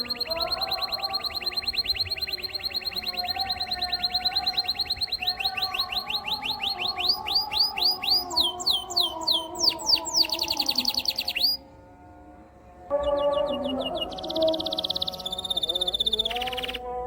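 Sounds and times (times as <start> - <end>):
canary trilling song: 0.0 - 11.8, 12.9 - 17.0.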